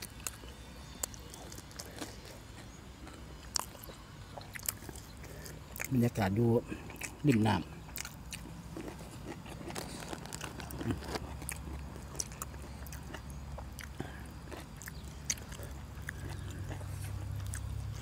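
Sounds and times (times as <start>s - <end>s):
chewing crunchy vegetable stalks: 0.0s - 18.0s
steady low hum: 0.0s - 18.0s.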